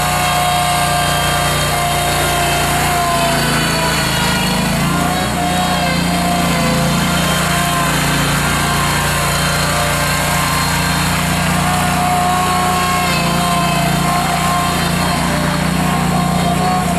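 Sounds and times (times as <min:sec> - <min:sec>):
backhoe engine running: 0:00.0 - 0:16.9.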